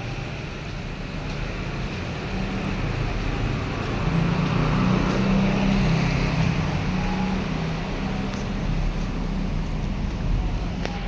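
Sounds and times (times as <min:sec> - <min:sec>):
street traffic: 0:00.0 - 0:11.0
vehicle engine humming close by: 0:00.0 - 0:11.0.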